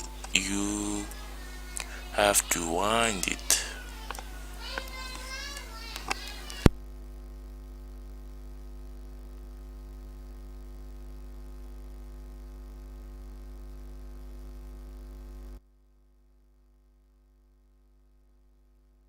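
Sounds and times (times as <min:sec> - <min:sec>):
electrical mains hum: 0:00.0 - 0:15.6.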